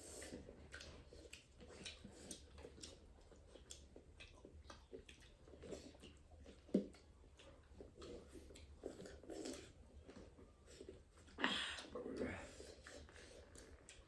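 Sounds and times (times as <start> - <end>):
faint chewing: 0.0 - 14.0.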